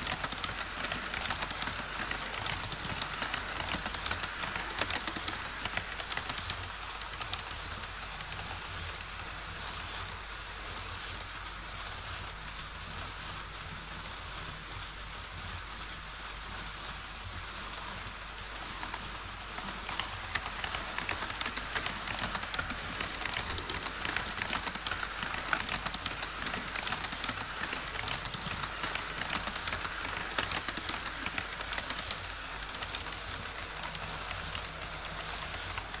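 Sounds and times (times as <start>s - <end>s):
model train wheels clattering: 0.0s - 36.0s.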